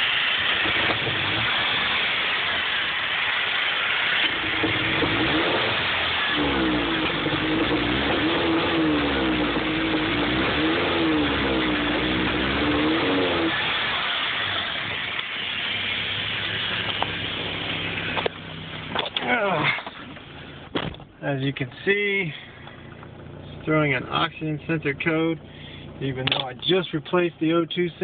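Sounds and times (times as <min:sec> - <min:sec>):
car engine sputtering: 0:00.0 - 0:28.0.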